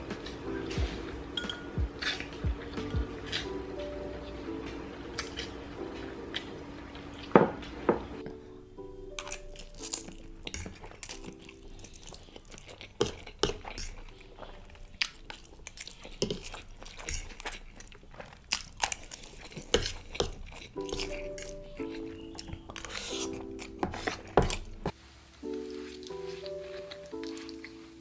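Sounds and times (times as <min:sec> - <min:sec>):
faint background music: 0:00.0 - 0:28.0
person chewing noodles: 0:00.1 - 0:04.3, 0:05.1 - 0:07.4, 0:08.2 - 0:28.0.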